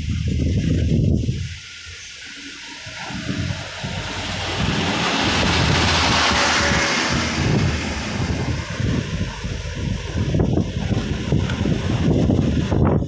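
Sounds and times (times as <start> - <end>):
wind buffeting at open window: 0.0 - 13.0
lorry passing close: 1.9 - 12.9.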